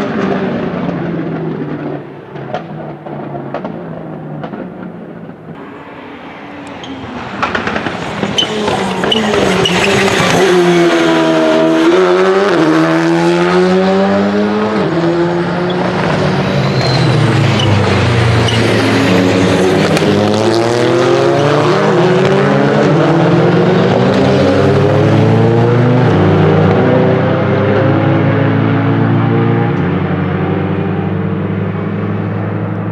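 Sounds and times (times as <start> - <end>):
rally car engine revving: 5.6 - 32.9.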